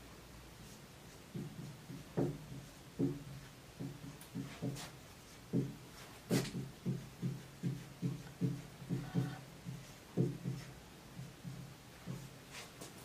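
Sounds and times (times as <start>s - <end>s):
marker writing on whiteboard: 0.6s - 13.0s.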